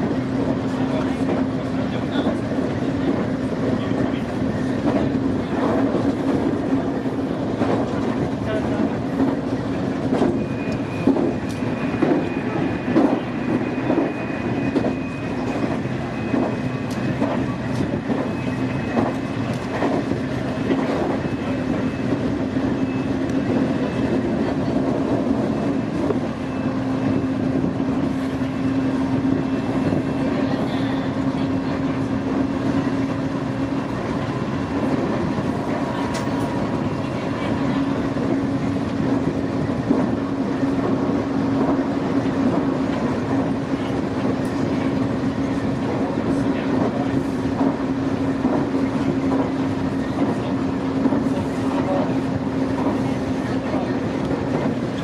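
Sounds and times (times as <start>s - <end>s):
train running hum: 0.0s - 55.0s.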